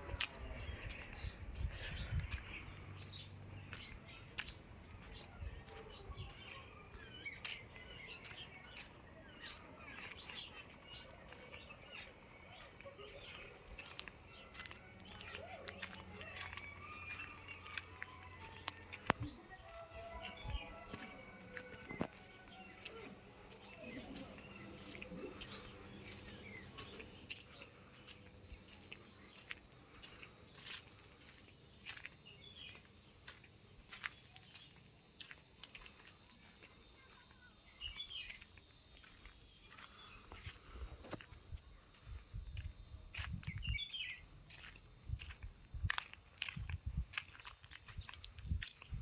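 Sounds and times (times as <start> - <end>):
high-pitched insect chorus: 0.0 - 49.0.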